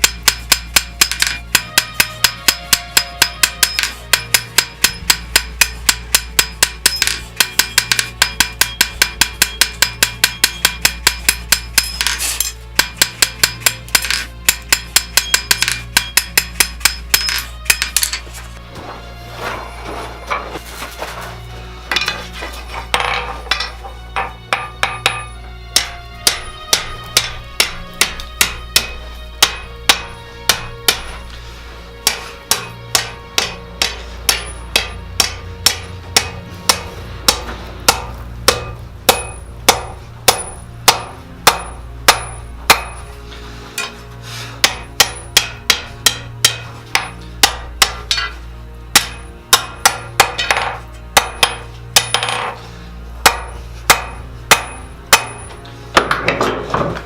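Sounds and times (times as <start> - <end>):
hammer ringing on anvil: 0.0 - 18.2, 22.9 - 31.3, 32.0 - 43.1, 44.6 - 52.6, 53.2 - 56.5.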